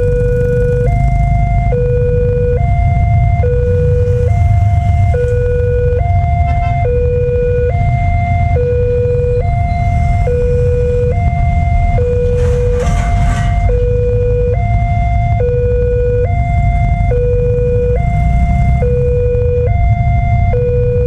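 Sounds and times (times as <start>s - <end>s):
level crossing two-tone alarm: 0.0s - 21.0s
steady low rumble: 0.0s - 21.0s.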